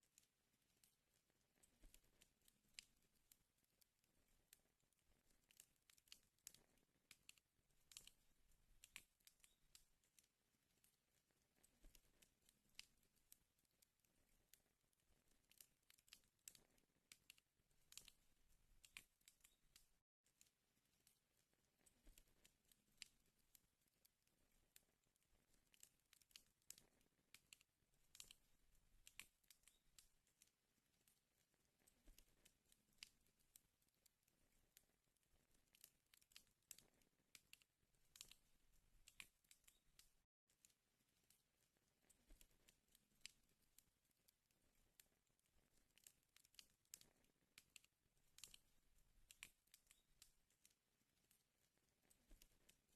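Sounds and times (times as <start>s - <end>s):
wood fire crackling: 0.2s - 20.0s, 20.8s - 40.2s, 45.7s - 50.6s.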